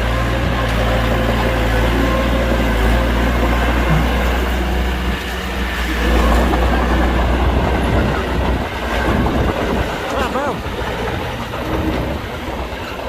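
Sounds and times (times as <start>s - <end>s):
heavy diesel machinery rumbling: 0.0s - 13.0s.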